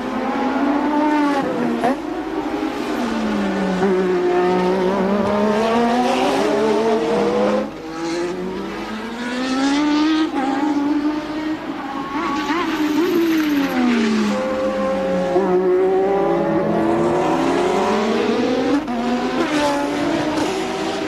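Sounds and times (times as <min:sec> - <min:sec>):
racing car engine revving: 0:00.1 - 0:11.8, 0:12.4 - 0:21.0.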